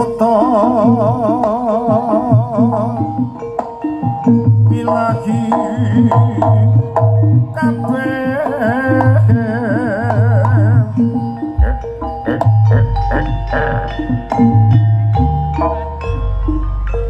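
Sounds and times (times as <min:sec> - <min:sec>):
wavering melody with vibrato: 0:00.0 - 0:17.0
drum strokes: 0:01.0 - 0:16.3.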